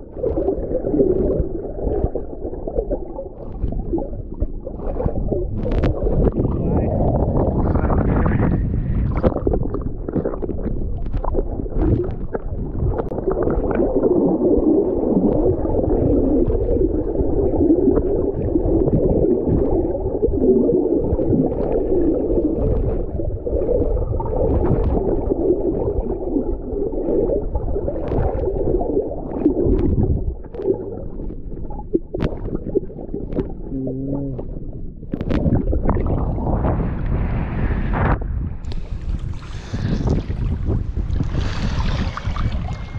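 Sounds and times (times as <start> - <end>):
muffled underwater gurgling: 0.0 - 42.9.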